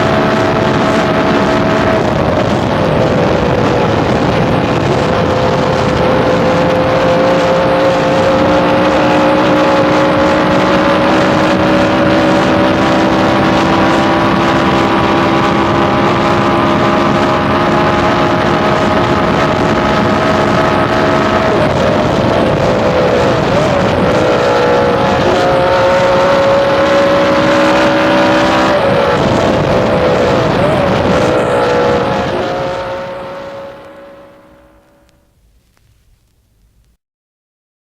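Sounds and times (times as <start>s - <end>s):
racing car engine at high revs: 0.0s - 35.3s.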